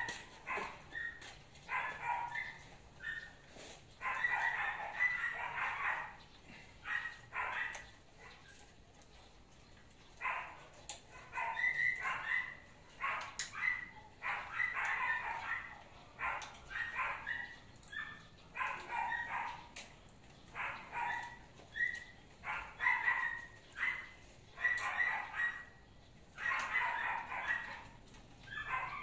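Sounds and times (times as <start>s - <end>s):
dog barking: 0.0s - 3.4s, 4.0s - 8.6s, 10.2s - 19.9s, 20.5s - 29.0s.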